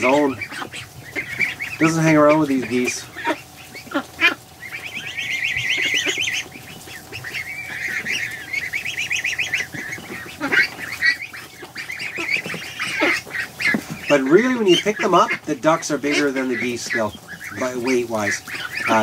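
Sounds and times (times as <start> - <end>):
young geese and ducks peeping: 0.0 - 19.0.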